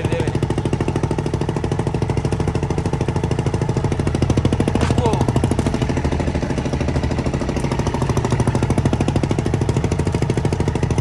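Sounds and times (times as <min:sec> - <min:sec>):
diesel boat engine pulsing: 0:00.0 - 0:11.0.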